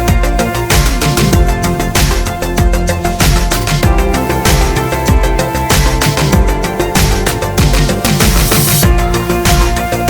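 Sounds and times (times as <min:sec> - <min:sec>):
electronic music with heavy drums: 0:00.0 - 0:10.0.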